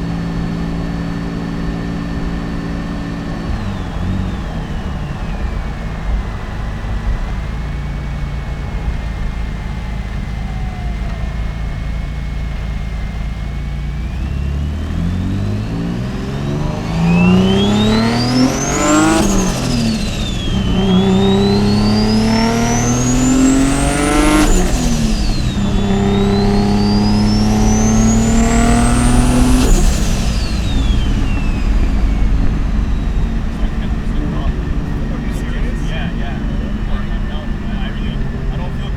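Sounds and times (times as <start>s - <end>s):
car engine accelerating: 0.0s - 38.9s
turbo whine: 0.0s - 38.9s.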